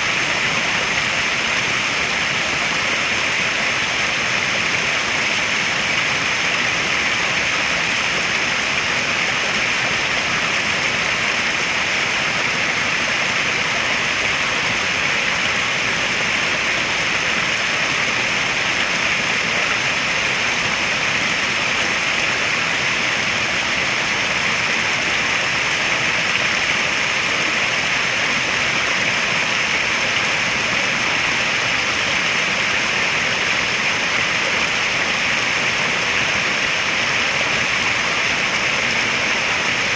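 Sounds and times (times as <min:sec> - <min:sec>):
running water in a pond: 0:00.0 - 0:39.9.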